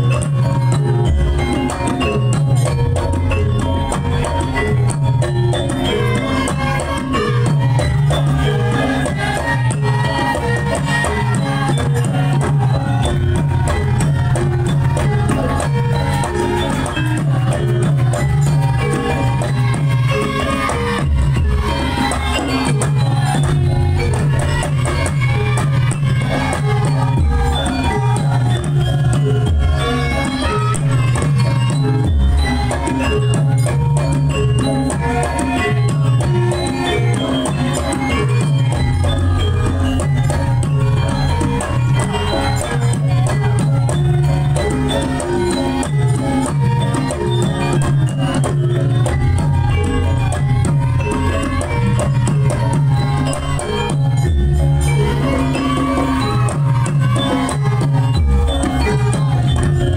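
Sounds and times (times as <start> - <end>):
gamelan music: 0.0 - 59.9
pitched percussion notes: 0.0 - 59.9
ringing gongs and metallophones: 0.0 - 59.9.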